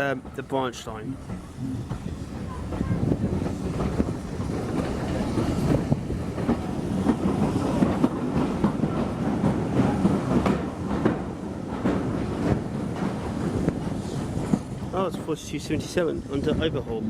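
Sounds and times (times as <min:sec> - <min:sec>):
wheels clicking over rails: 0:00.0 - 0:15.2
railway carriage rumbling: 0:00.0 - 0:17.0.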